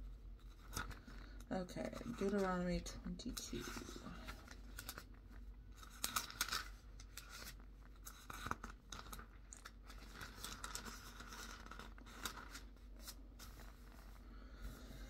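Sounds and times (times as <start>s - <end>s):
thin pages rustling: 0.4s - 2.5s, 3.3s - 14.3s.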